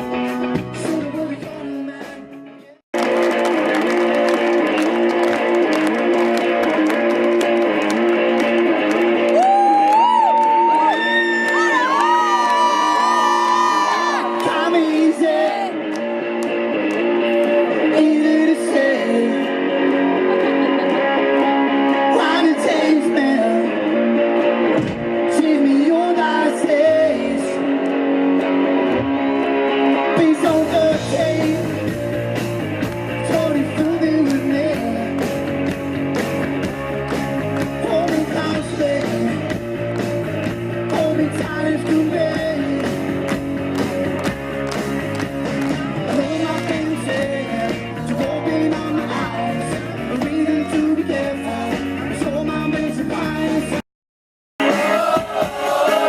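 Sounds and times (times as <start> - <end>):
bass guitar and drums: 0.0 - 53.8
guitar: 0.0 - 53.8, 54.6 - 56.0
live rock band playing: 0.0 - 53.8, 54.6 - 56.0.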